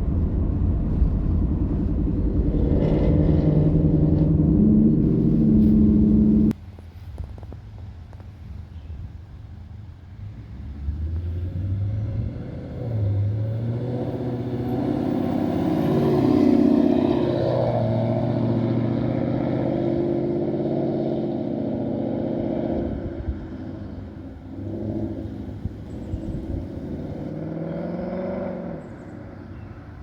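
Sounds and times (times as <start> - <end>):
car engine through exhaust: 0.0 - 30.0.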